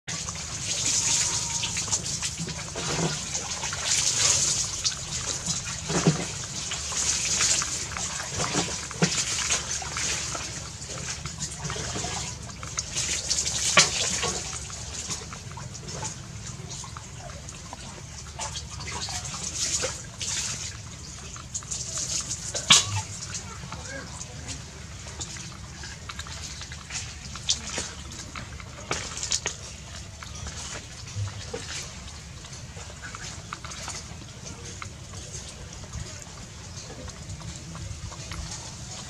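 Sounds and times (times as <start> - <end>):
puppy lapping and chewing: 0.2 - 39.0.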